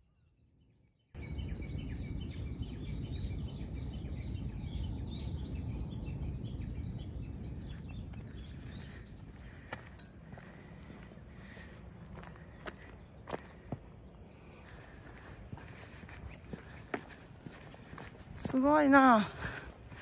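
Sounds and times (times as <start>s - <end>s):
birds singing and chirping: 1.2s - 20.0s
low background rumble: 1.2s - 20.0s.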